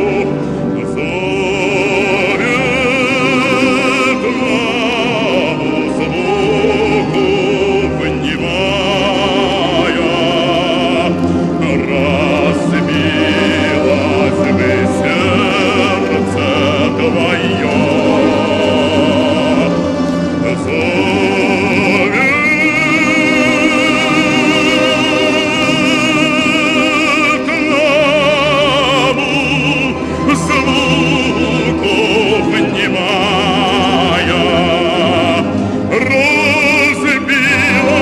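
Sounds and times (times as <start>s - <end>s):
man singing operatic bass: 0.0s - 38.0s.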